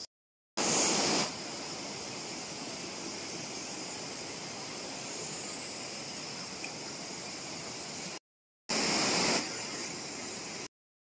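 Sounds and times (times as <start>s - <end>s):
high insect drone: 0.6s - 10.7s.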